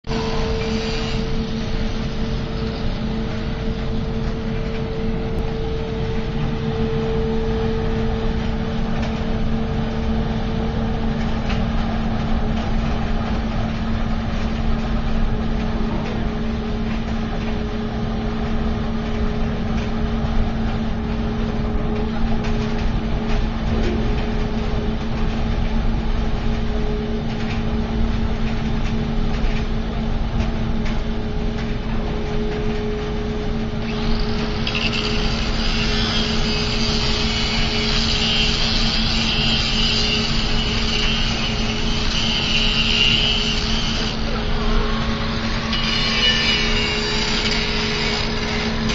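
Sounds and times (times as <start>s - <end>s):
machinery motor hum: 0.1s - 48.9s.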